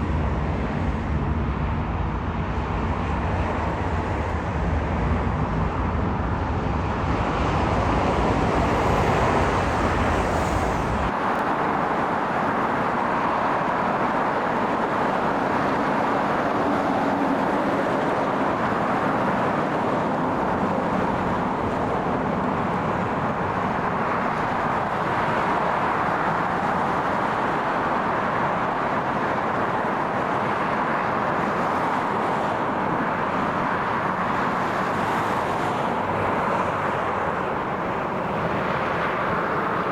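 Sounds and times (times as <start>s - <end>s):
aircraft engine rush: 0.0s - 39.9s.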